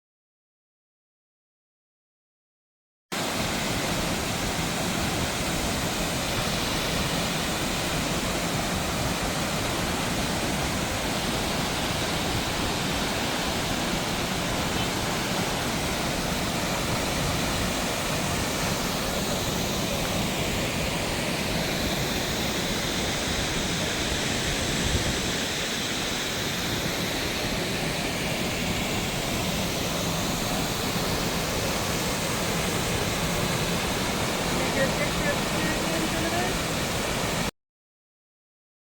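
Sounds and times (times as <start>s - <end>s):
waterfall rushing: 3.2s - 37.5s.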